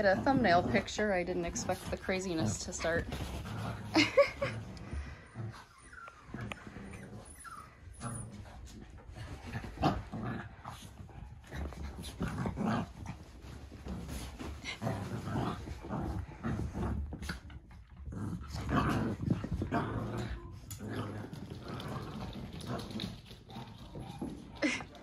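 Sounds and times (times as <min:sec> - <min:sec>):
scuffling paws: 0:00.0 - 0:20.7
puppy growls: 0:00.0 - 0:25.0.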